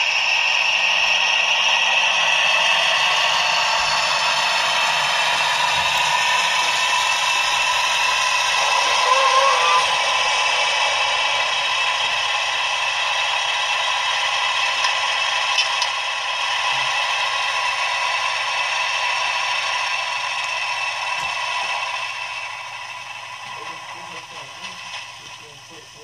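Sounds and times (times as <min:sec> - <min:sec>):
diesel engine sound from small loudspeaker: 0:00.0 - 0:26.0.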